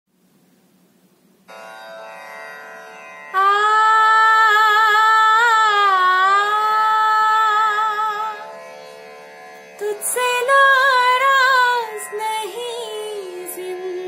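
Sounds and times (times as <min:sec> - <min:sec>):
instrumental drone: 0:01.5 - 0:14.0.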